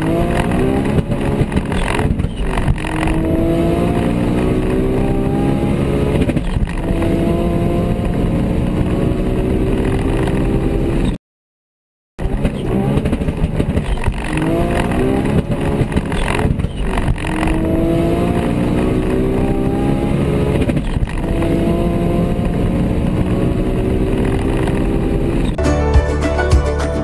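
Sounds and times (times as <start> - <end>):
car engines accelerating: 0.0 - 11.2, 12.3 - 25.6
gear upshifts: 0.0 - 11.2, 12.2 - 25.6.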